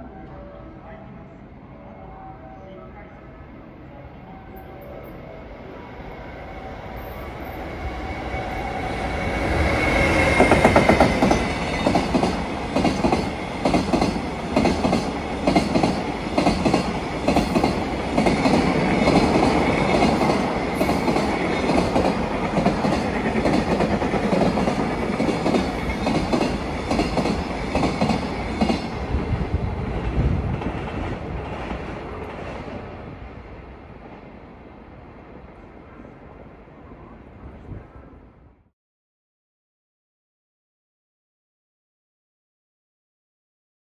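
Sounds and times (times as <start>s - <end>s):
freight train passing: 0.0s - 38.7s.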